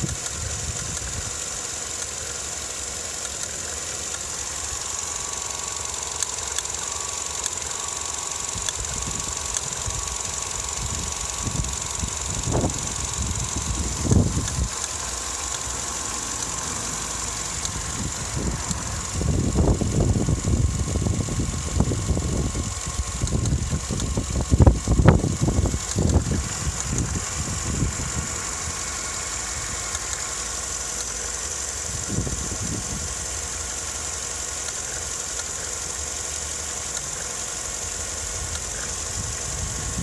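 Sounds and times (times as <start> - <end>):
car engine idling roughly: 0.0 - 40.0
steady high whine: 0.0 - 40.0.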